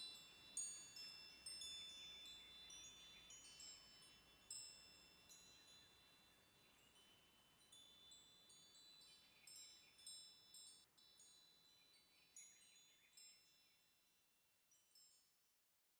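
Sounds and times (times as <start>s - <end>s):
wind chimes ringing: 0.0s - 13.9s.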